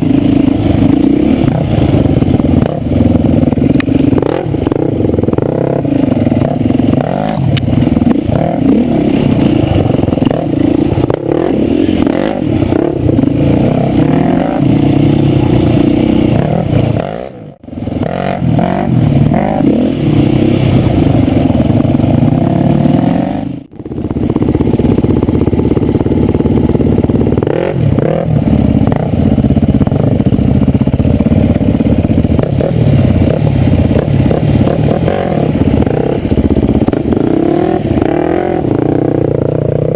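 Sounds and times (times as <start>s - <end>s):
dirt bike engine revving: 0.0s - 39.9s
engine clatter: 0.0s - 39.9s.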